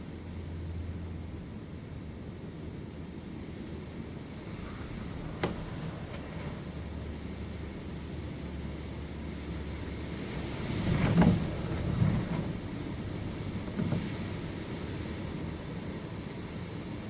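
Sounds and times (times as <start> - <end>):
storm wind rumbling: 0.2 - 17.0.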